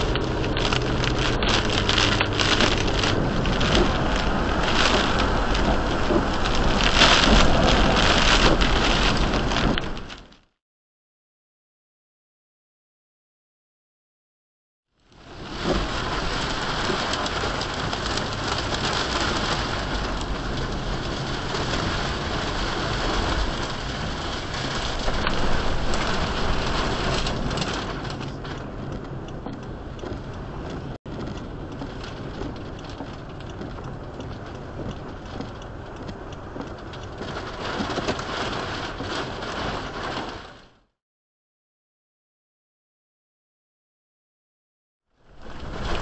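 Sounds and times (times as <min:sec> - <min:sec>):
rain and wind on a car: 0:00.0 - 0:10.6, 0:14.9 - 0:41.0, 0:45.0 - 0:46.0.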